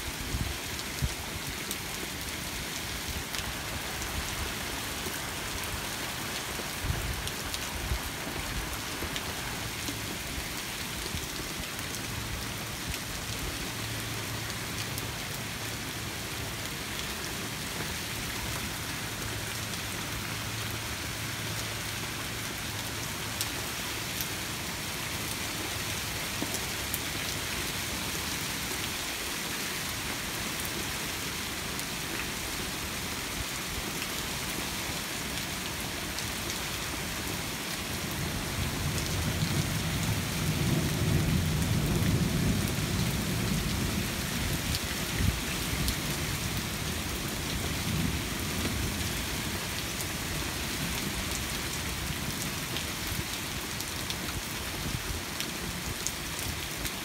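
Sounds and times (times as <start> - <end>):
hard rain hissing: 0.0 - 57.0.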